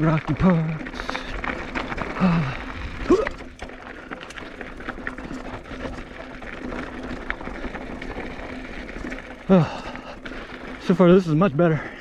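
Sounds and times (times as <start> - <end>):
bike rattling over rocks: 0.0 - 12.0
tyres rumbling: 0.0 - 12.0
wind: 0.0 - 12.0.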